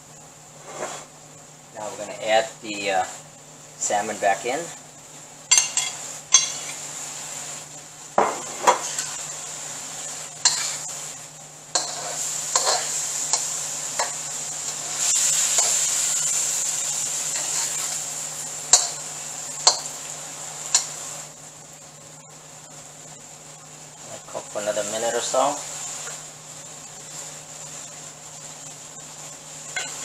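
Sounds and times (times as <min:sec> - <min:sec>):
food sizzling in a wok: 0:00.0 - 0:30.0.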